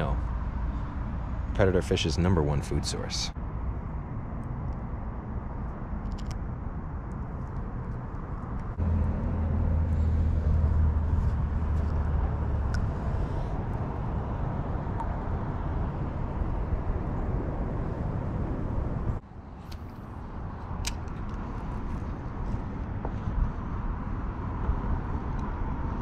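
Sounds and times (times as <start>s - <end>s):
distant road traffic rumble: 0.0s - 26.0s.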